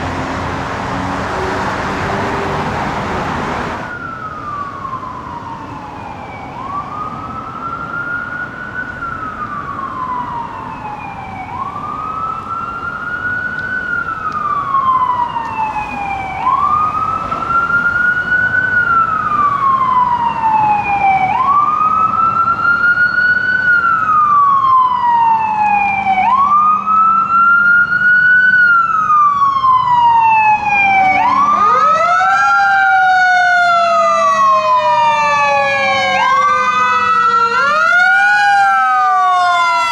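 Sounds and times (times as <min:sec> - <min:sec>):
fire engine siren wailing: 0:00.0 - 0:39.9
lower siren tone: 0:00.0 - 0:39.9.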